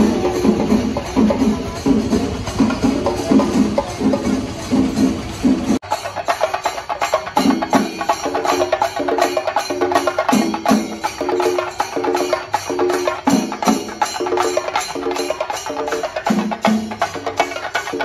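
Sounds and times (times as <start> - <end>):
fast wood-block-like drum strokes: 0.0 - 18.0.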